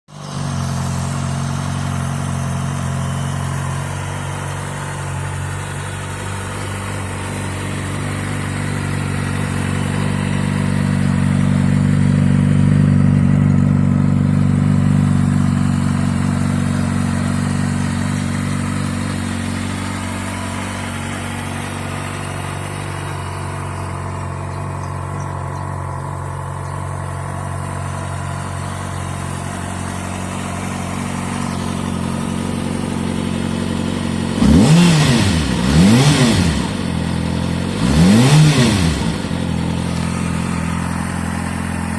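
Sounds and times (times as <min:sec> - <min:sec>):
motorcycle engine idling: 0:00.1 - 0:41.9.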